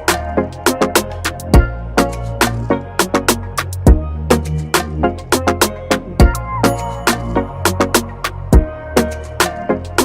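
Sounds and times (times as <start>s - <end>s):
afrobeat music with drums and bass: 0.0s - 10.0s.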